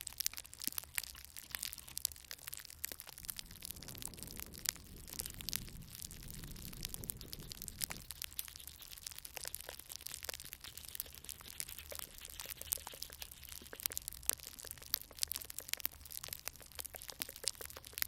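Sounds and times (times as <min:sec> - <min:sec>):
glue stick crackling on microphone: 0:00.0 - 0:18.0.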